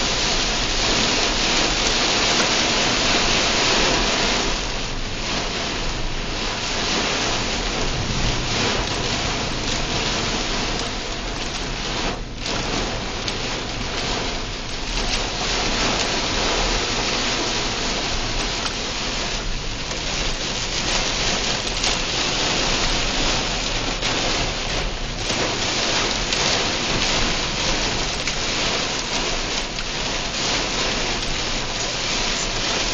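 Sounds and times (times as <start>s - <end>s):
heavy rain on car roof: 0.0s - 32.9s.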